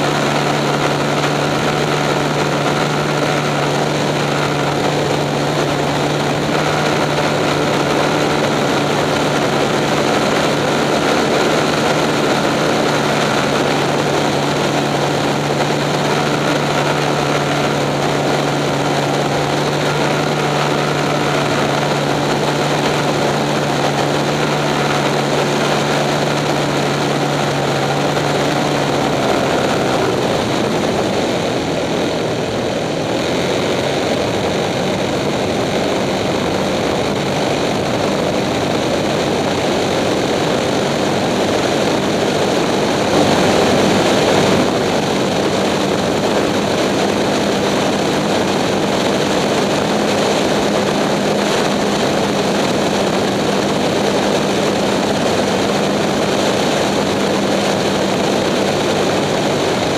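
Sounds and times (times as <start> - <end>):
propeller airplane engine drone: 0.0 - 59.9
rushing airflow: 0.0 - 59.9.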